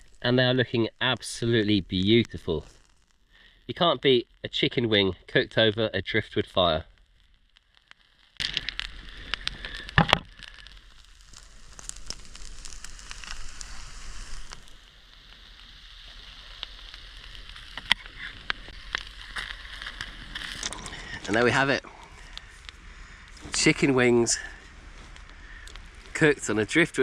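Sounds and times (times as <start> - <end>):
campfire crackling and popping: 0.0 - 27.0
steady hiss: 0.0 - 27.0.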